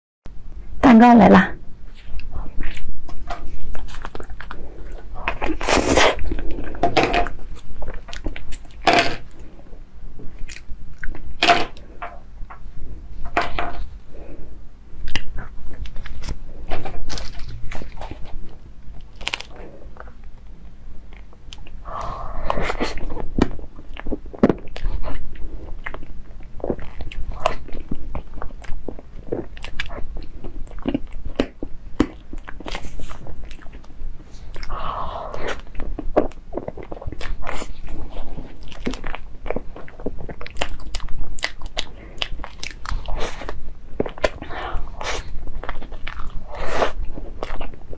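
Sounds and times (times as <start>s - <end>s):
mouth and chewing sounds: 1.9s - 9.6s, 15.0s - 20.4s, 21.1s - 47.9s.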